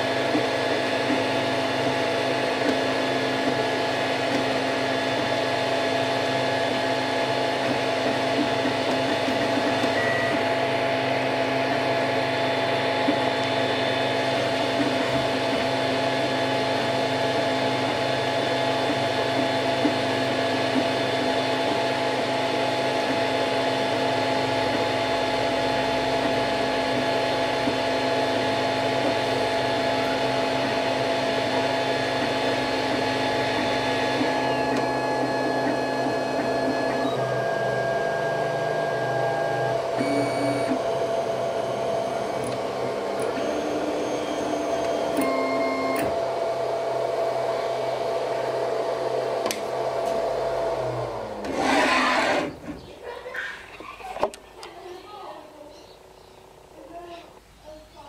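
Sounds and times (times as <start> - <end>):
stepper motors buzzing and whirring: 0.0 - 52.7
cooling fans humming: 0.0 - 58.0.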